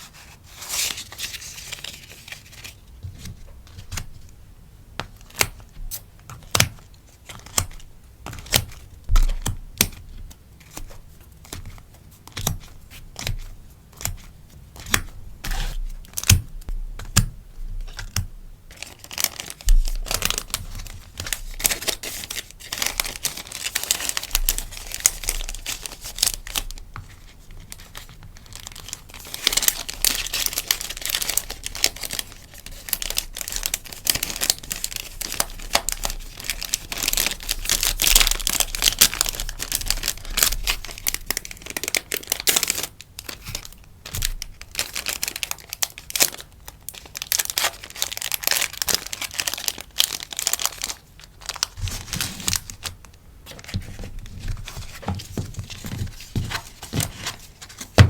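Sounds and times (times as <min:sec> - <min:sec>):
packaging crinkling and rustling: 0:00.0 - 0:04.4, 0:05.0 - 0:17.2, 0:17.8 - 0:58.0.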